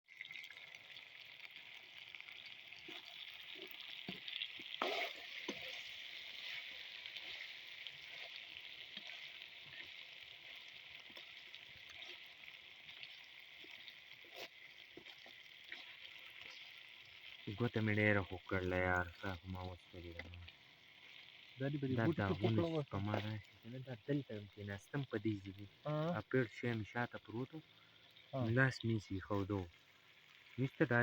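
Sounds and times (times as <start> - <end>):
chicken sizzling in hot oil: 0.1 - 31.0.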